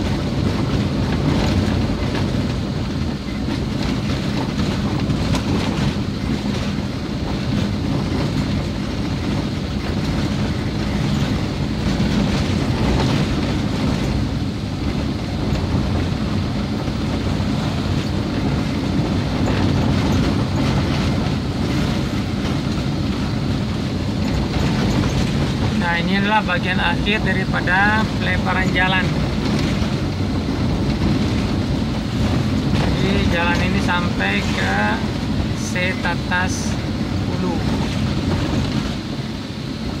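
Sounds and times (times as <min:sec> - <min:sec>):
car driving on rough road: 0:00.0 - 0:40.0
knocks and rattles over bumps: 0:00.0 - 0:40.0.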